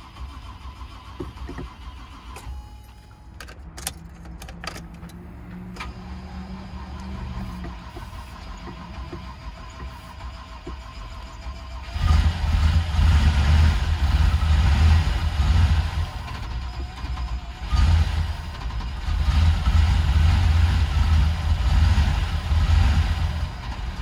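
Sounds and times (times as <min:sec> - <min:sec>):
starter cranking engine: 0:00.0 - 0:02.5, 0:03.4 - 0:24.0.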